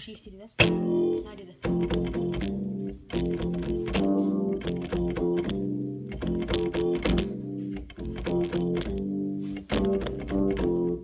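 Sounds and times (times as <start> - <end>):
electronic keyboard low notes: 0.6 - 11.0.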